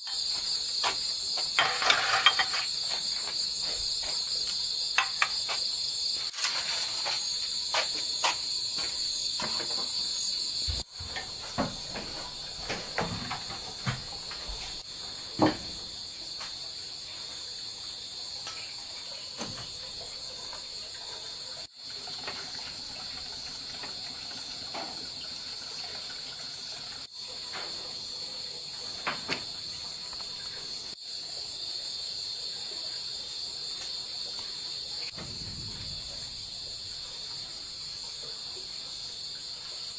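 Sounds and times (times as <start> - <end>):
insect chirring: 0.0 - 39.9.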